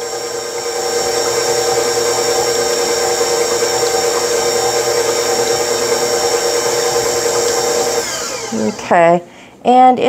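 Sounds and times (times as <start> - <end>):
stand mixer motor whining: 0.0 - 9.0.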